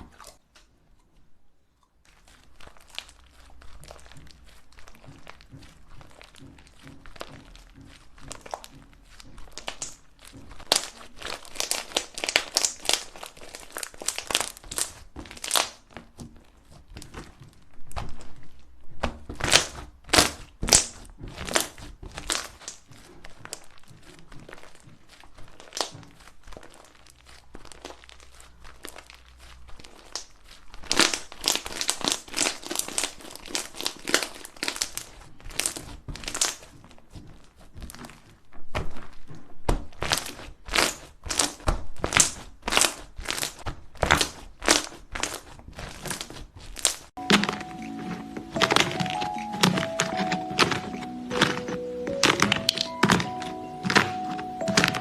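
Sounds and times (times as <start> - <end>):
slime squishing: 0.0 - 55.0
slime crackling and popping: 2.0 - 55.0.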